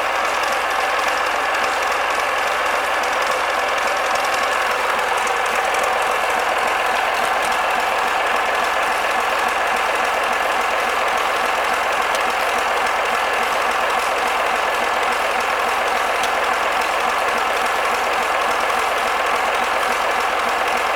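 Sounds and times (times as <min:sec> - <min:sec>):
marine diesel engine running: 0:00.0 - 0:20.9.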